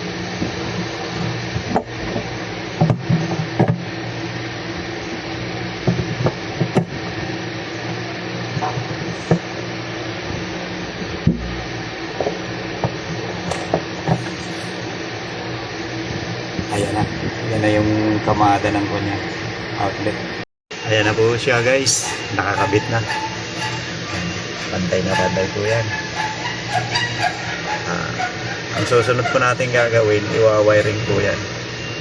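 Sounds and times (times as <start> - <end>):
mechanical hum: 0.0 - 32.0.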